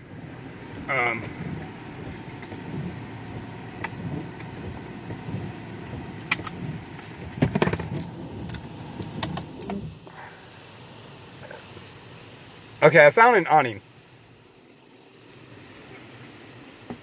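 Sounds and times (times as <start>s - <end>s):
rain on a car: 0.0s - 17.0s.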